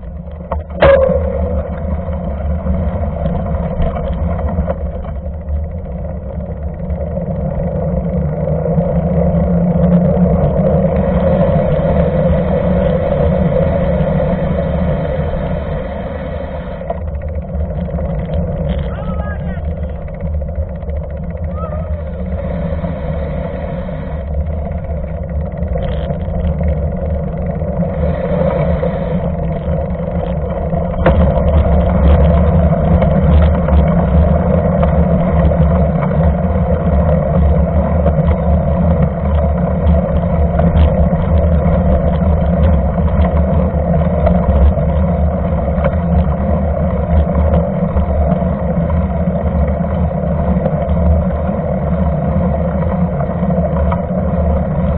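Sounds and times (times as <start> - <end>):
bike tyre rolling on wet asphalt: 0.0 - 54.9.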